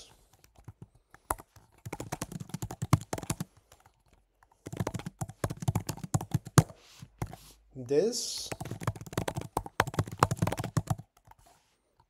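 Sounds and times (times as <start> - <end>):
typing on computer keyboard: 0.3 - 7.4, 8.4 - 11.5.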